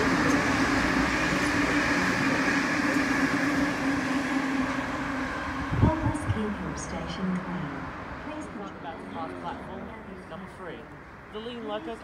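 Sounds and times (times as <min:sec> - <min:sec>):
electric train rumbling past: 0:00.0 - 0:12.0
train hum: 0:00.0 - 0:12.0.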